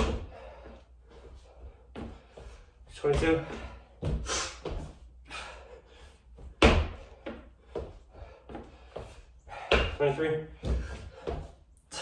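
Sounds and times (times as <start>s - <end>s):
heavy breathing: 0.0s - 6.4s, 7.0s - 12.0s.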